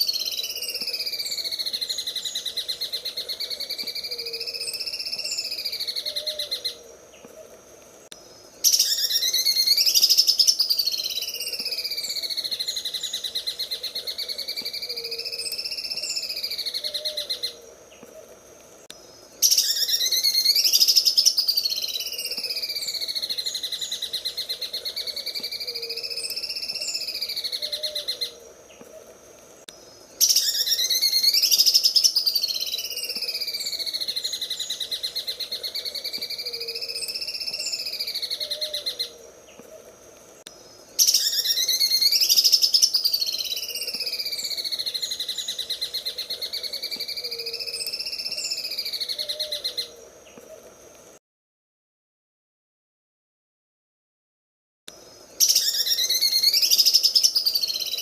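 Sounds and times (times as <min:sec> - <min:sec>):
bird singing buzzing trill: 0:00.0 - 0:07.3, 0:08.0 - 0:18.1, 0:18.9 - 0:28.8, 0:29.7 - 0:39.7, 0:40.4 - 0:50.4, 0:55.1 - 0:58.0.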